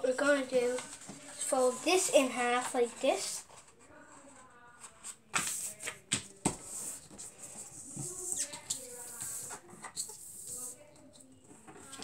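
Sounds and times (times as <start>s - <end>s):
paper rustling and folding: 0.0s - 10.8s.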